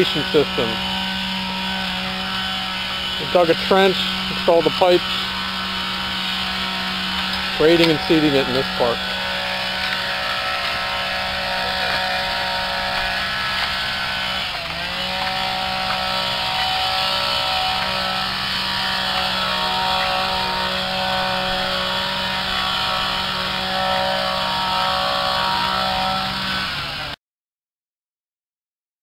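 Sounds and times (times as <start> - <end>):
engine running: 0.0 - 27.2.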